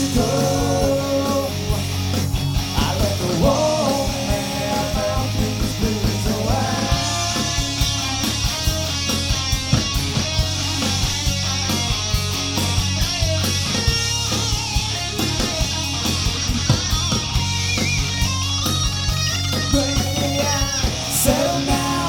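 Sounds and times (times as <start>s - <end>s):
bass guitar: 0.0s - 22.0s
electric guitar: 0.0s - 22.0s
steady drum beat: 0.0s - 22.0s.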